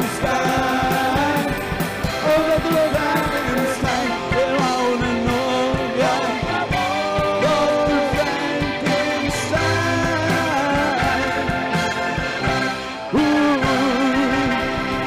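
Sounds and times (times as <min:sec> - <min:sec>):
person singing: 0:00.0 - 0:15.0
rockabilly band playing: 0:00.0 - 0:15.0.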